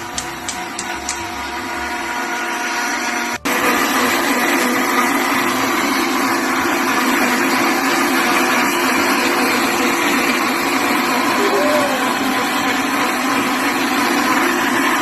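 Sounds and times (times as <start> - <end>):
electric blender running: 0.0 - 15.0.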